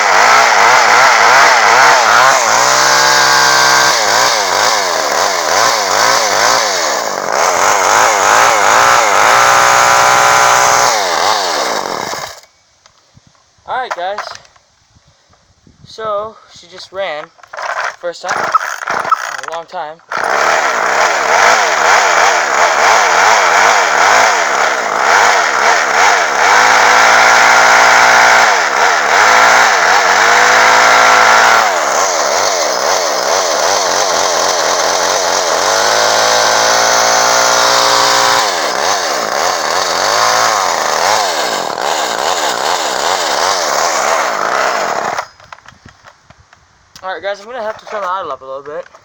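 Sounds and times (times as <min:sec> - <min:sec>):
chainsaw engine revving: 0:00.0 - 0:12.5, 0:17.5 - 0:45.6.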